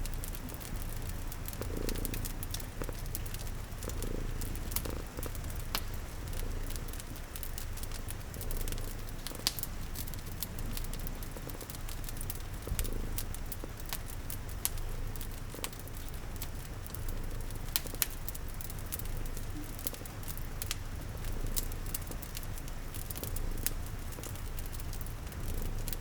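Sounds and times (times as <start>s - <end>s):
cat purring: 0.0s - 26.0s
soft rain patter: 0.0s - 26.0s
wood fire crackling and popping: 0.0s - 26.0s.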